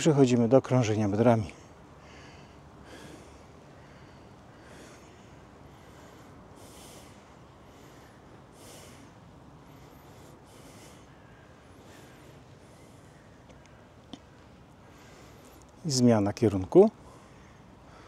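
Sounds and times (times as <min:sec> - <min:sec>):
man breathing softly: 0:01.6 - 0:15.8, 0:17.0 - 0:18.0.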